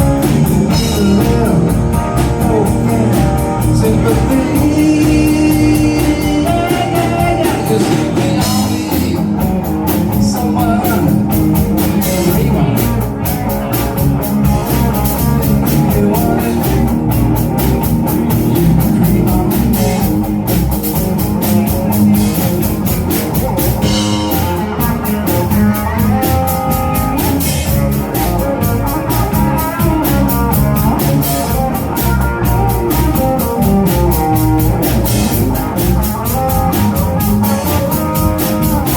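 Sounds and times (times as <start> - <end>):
drum kit steady beat: 0.0 - 38.9
electric guitar playing: 0.0 - 38.9.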